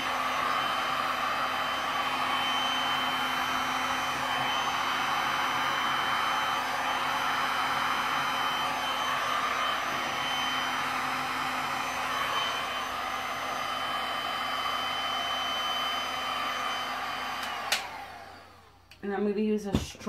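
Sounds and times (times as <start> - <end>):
heat gun blowing air: 0.0 - 18.9.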